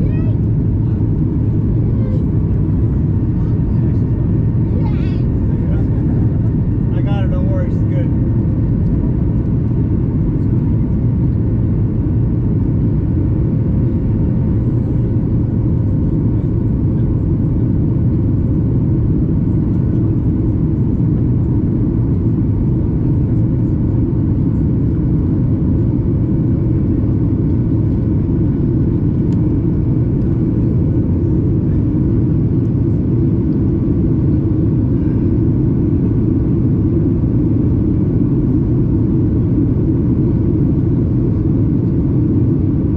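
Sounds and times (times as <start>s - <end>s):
airplane cabin low rumble: 0.0s - 42.9s.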